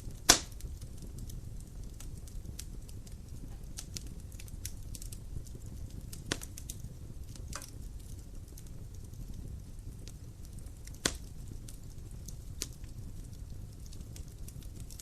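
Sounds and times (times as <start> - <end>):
low steady rumble: 0.0 - 15.0
wood fire crackling: 0.0 - 15.0.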